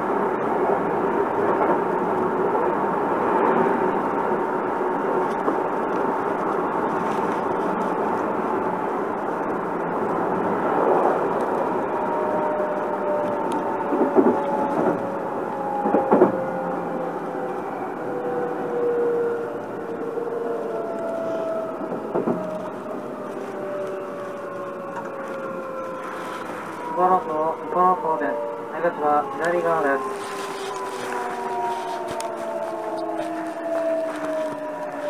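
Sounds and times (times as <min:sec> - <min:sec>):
train rumble and hum: 0:00.0 - 0:35.0.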